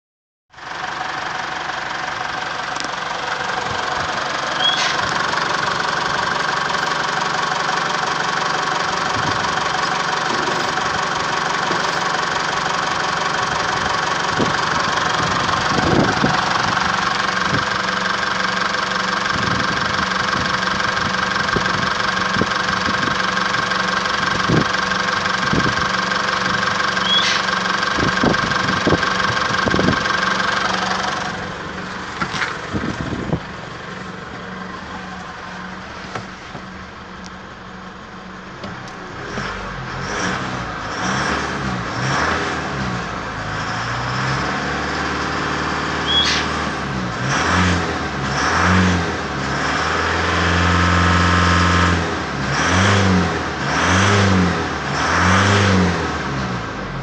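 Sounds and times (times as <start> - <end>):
diesel engine idling: 0.5 - 57.0.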